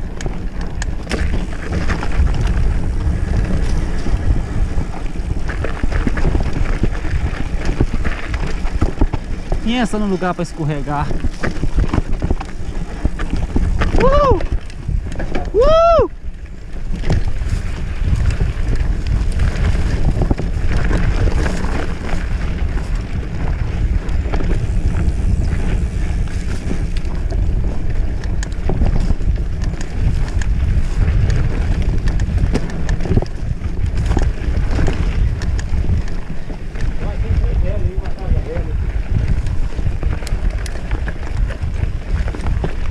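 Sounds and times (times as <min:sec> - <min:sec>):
clicks and knocks from bike frame: 0:00.0 - 0:09.6, 0:11.1 - 0:15.6, 0:16.4 - 0:37.0, 0:39.0 - 0:42.9
bike rattling over dirt: 0:00.0 - 0:42.9
wind rumbling on microphone: 0:00.0 - 0:42.9.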